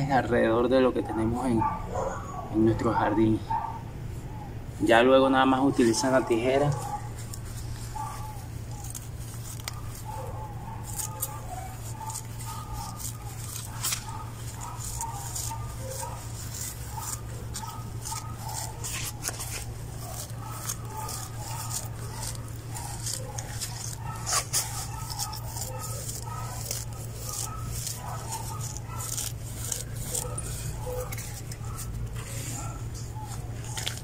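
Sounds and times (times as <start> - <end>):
steady low hum: 0.0 - 34.0
plants rustling: 4.8 - 34.0
garden shears snipping: 5.6 - 34.0.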